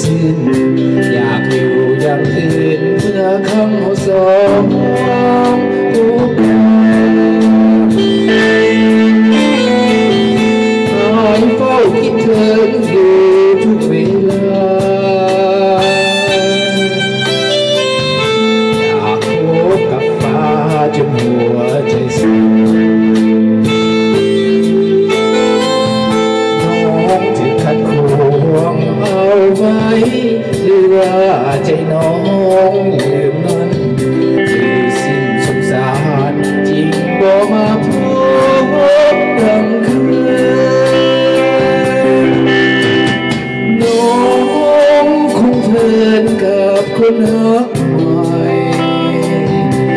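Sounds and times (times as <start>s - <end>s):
electric guitar chords: 0.0s - 49.9s
keyboard chords: 0.0s - 49.9s
person singing: 0.0s - 49.9s
steady drum beat: 0.0s - 49.9s.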